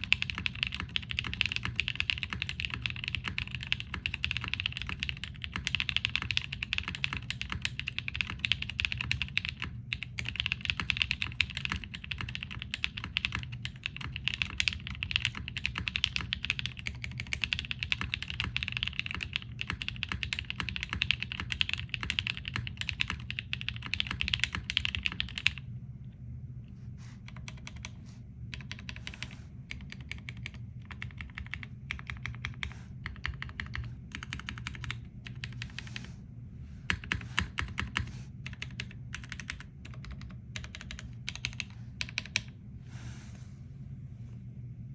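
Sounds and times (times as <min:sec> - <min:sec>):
mechanical keyboard typing: 0:00.0 - 0:25.6, 0:27.3 - 0:27.9, 0:28.5 - 0:35.8, 0:36.9 - 0:42.5
steady low hum: 0:00.0 - 0:44.9.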